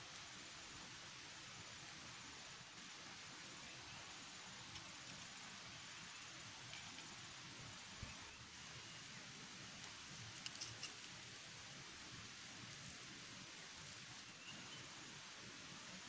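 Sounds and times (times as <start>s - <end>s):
rain falling in forest: 0.0s - 16.0s.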